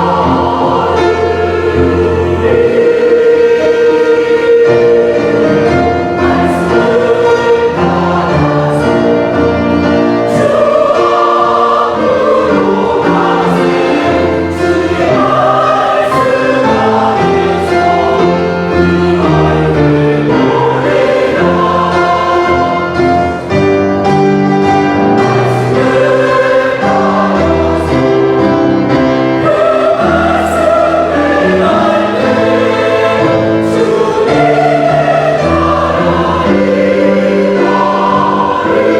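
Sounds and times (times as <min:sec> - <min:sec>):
choir singing gospel: 0:00.0 - 0:38.9.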